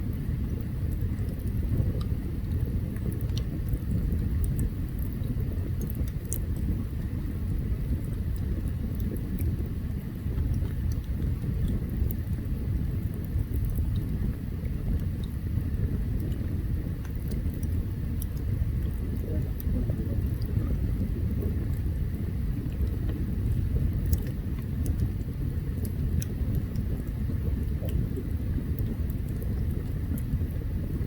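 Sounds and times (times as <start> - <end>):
campfire rumbling: 0.0 - 31.0
fire crackling and popping: 0.0 - 31.0.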